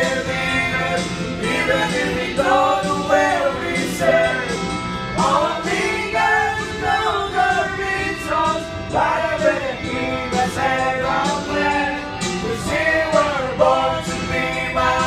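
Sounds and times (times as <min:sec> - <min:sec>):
men singing karaoke: 0:00.0 - 0:15.0
recorded backing track: 0:00.0 - 0:15.0.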